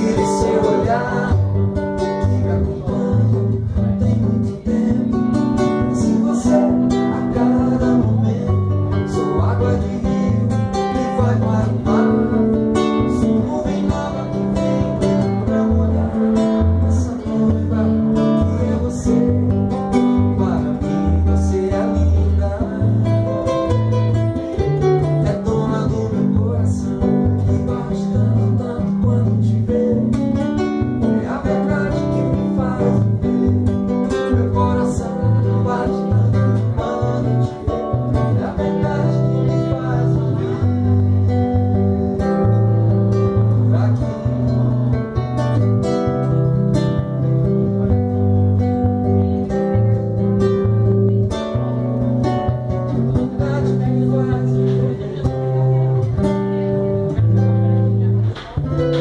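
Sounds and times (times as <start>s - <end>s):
acoustic guitar strummed and plucked: 0.0s - 59.0s
low bass notes: 0.0s - 59.0s.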